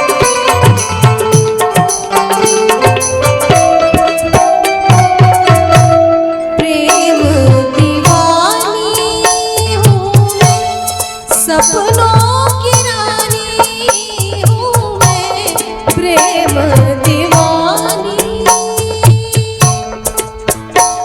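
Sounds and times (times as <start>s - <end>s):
ornamented melody line: 0.0s - 21.0s
steady drum beat: 0.0s - 21.0s.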